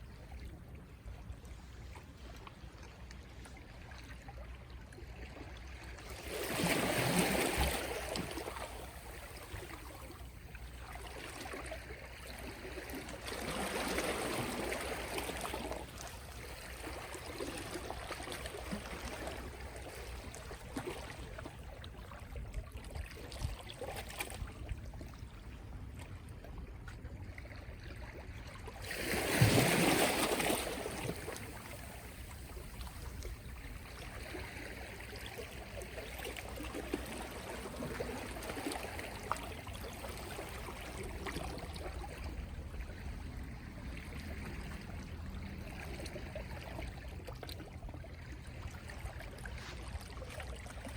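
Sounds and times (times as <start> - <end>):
gentle waves washing ashore: 5.6 - 25.6, 27.8 - 50.9.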